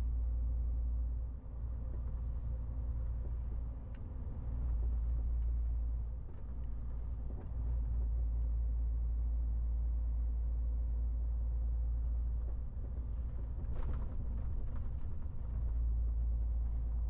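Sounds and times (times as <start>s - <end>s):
road rumble: 0.0s - 17.0s.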